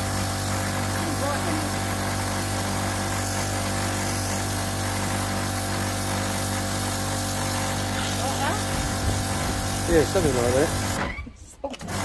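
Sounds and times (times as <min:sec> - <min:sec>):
pressure washer motor humming: 0:00.0 - 0:11.0
water jet hissing: 0:00.0 - 0:11.1.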